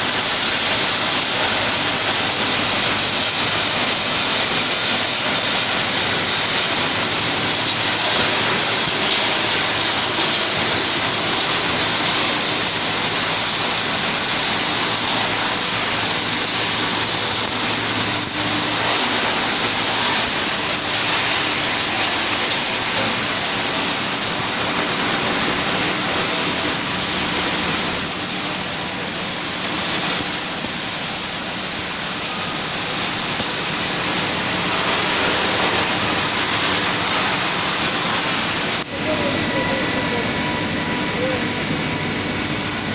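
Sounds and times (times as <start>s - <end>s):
machinery rushing noise: 2.0s - 42.9s.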